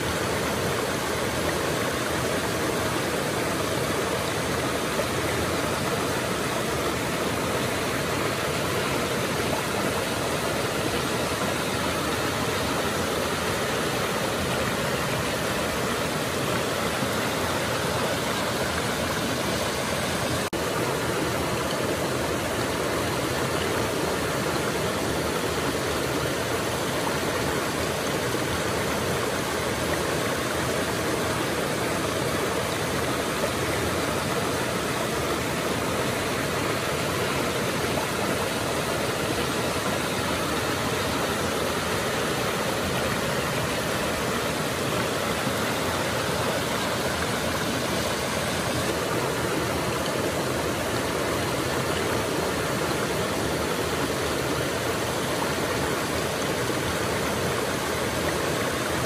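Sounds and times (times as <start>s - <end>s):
river rushing over rapids: 0.0s - 59.0s.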